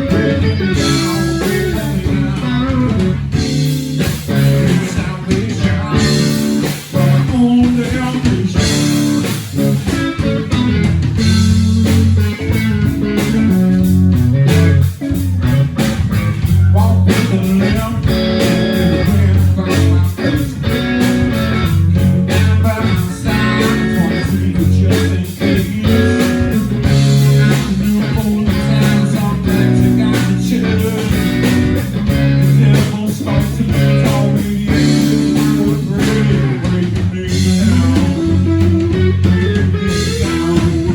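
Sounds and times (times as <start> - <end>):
blues-rock band playing: 0.0 - 40.9
electric guitar: 0.0 - 40.9.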